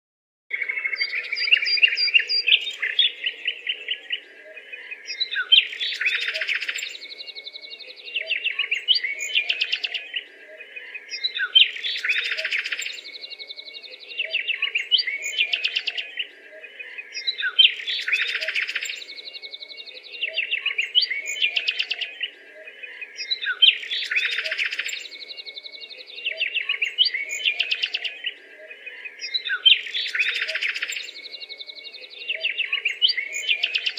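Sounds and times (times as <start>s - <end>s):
songbird chirping and trilling: 0.5s - 33.9s.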